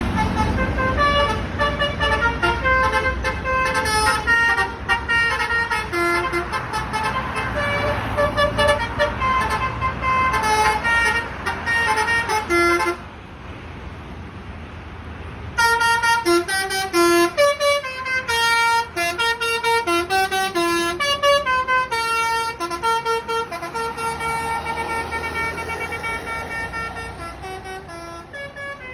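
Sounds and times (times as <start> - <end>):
musical bus horn playing a tune: 0.0 - 13.0, 15.6 - 28.9.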